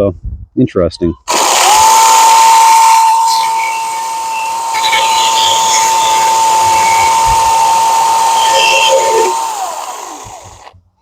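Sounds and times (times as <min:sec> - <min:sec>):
chainsaw cutting wood: 0:01.3 - 0:10.8.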